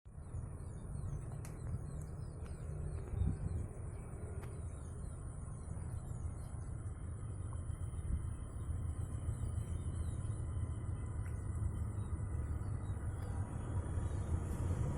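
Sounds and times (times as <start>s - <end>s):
high-pitched whine: 0.1s - 14.9s
small birds chirping: 0.1s - 14.9s
steady low rumble: 0.1s - 14.9s.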